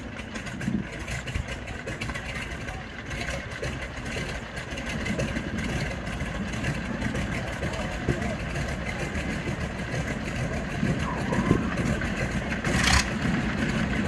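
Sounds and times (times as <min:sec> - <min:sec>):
radial aircraft engines running: 0:00.0 - 0:14.0.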